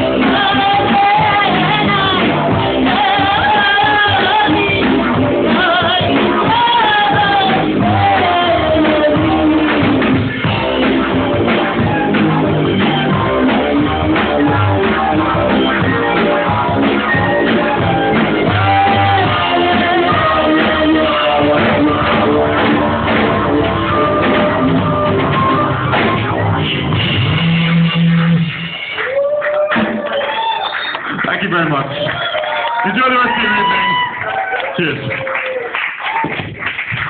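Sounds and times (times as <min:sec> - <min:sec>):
band playing up-tempo music: 0:00.0 - 0:37.0.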